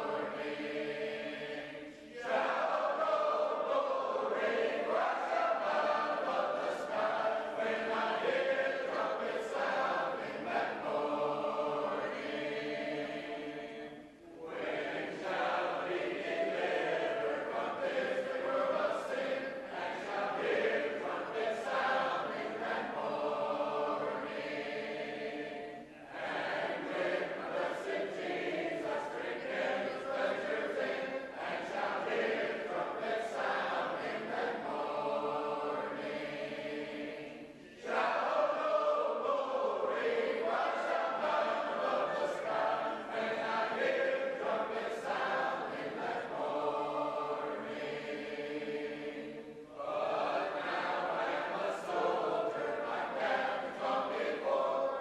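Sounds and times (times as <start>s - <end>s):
choir singing unaccompanied: 0.0s - 55.0s.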